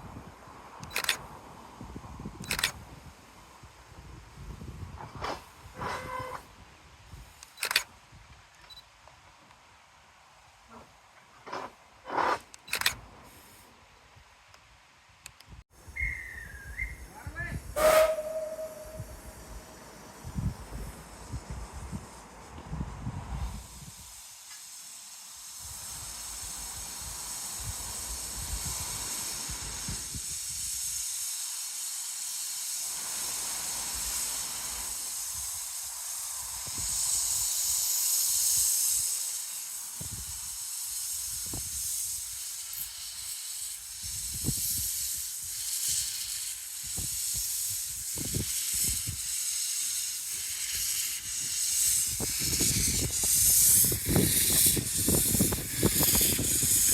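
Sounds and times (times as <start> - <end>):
steam locomotive hissing: 0.0 - 8.2, 9.2 - 14.5, 15.5 - 56.9.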